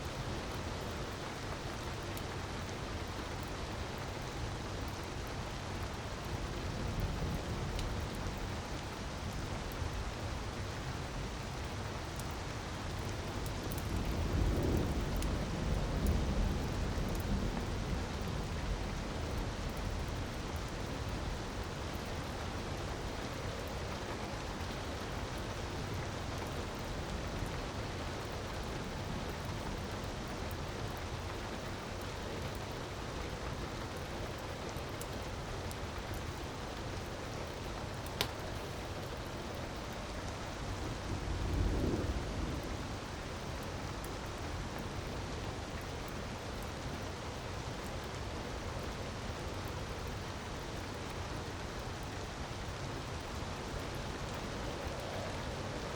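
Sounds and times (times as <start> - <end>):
fireplace fire crackling: 0.0 - 55.9.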